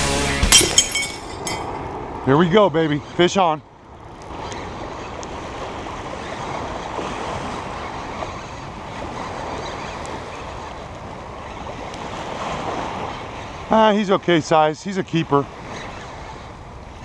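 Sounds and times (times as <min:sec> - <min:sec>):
wind on microphone: 0:00.5 - 0:14.3, 0:15.2 - 0:17.0.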